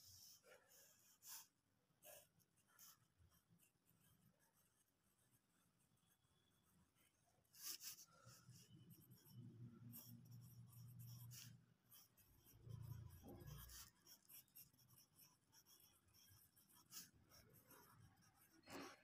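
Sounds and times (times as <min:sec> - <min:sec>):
pencil scratching on paper: 0:00.0 - 0:19.0.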